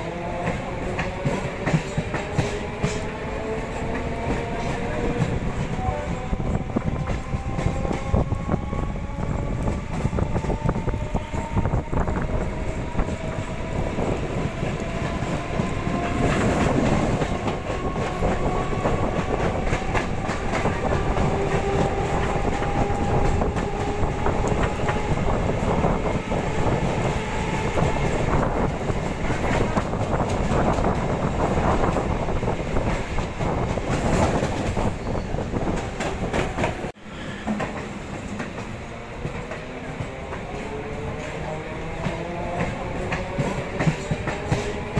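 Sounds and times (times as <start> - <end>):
train wheels rattling over rail joints: 0.0 - 44.9.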